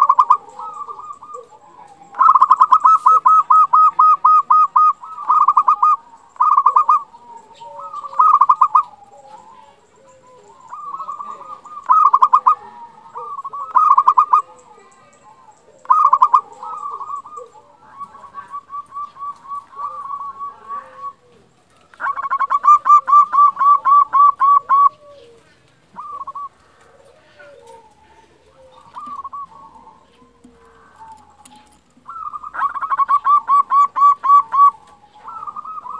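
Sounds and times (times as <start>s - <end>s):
dove trilling coos: 0.0s - 35.9s
faint low bird notes: 0.0s - 35.9s.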